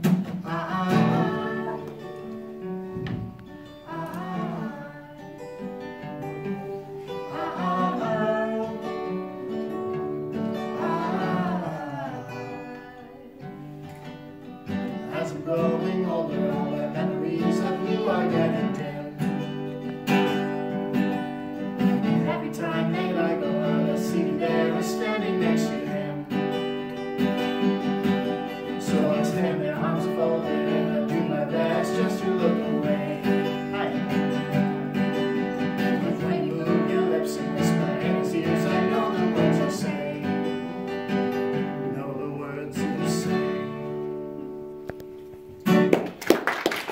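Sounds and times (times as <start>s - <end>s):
acoustic guitar strumming: 0.0s - 46.2s
person singing: 0.3s - 13.9s, 14.7s - 19.8s, 21.8s - 26.5s, 28.1s - 40.8s, 41.8s - 43.7s.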